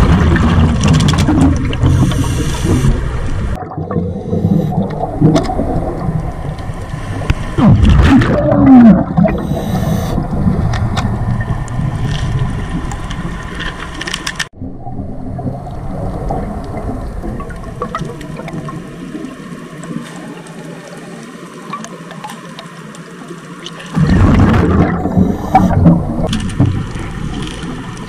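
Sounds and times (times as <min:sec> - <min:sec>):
gurgling exhaled bubbles: 0:00.0 - 0:13.6, 0:14.6 - 0:19.6, 0:23.9 - 0:28.0
low underwater rumble: 0:00.0 - 0:20.0, 0:24.0 - 0:28.0.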